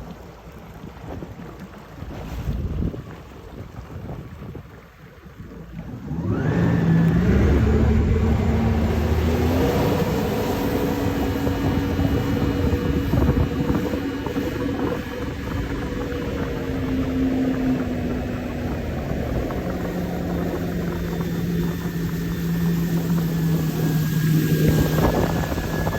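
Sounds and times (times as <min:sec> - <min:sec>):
jet ski engine running: 0:00.0 - 0:25.9.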